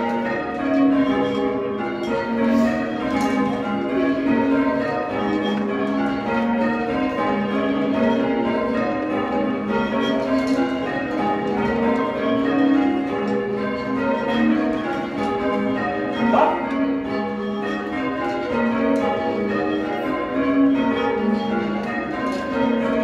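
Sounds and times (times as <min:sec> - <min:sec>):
church bells change ringing: 0:00.0 - 0:23.0.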